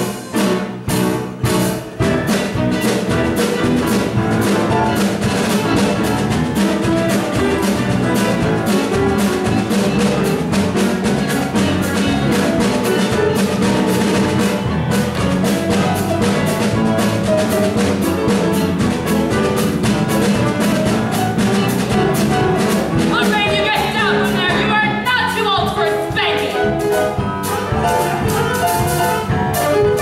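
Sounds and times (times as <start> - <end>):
instrumental dance music: 0.0 - 30.0.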